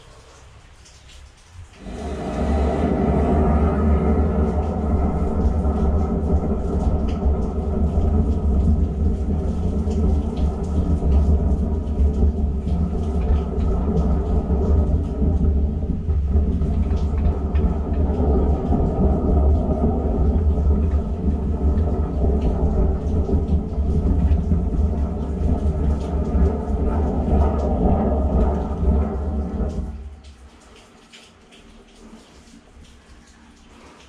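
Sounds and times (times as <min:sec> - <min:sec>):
sewer jetter rumbling: 0:00.0 - 0:34.0
steady hum: 0:01.7 - 0:30.9.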